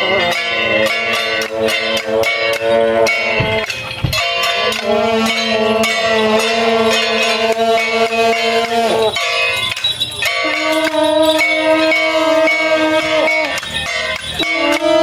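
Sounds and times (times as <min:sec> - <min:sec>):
reed horn holding long notes: 0:00.0 - 0:03.8, 0:04.4 - 0:15.0
gongs and cymbals clanging: 0:00.0 - 0:15.0.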